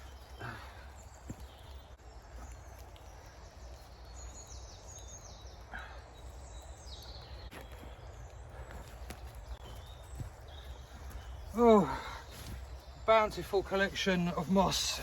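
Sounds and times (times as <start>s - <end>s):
small bird singing: 0.0s - 15.0s.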